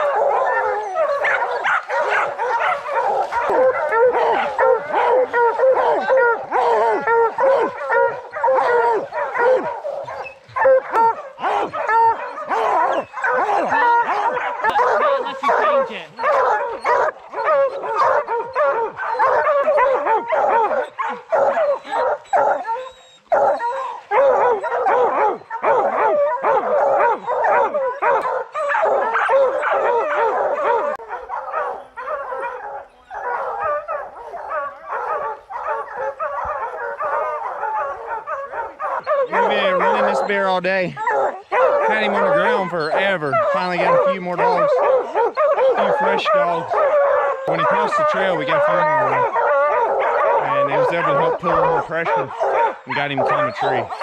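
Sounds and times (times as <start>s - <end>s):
hounds barking: 0.0s - 54.0s.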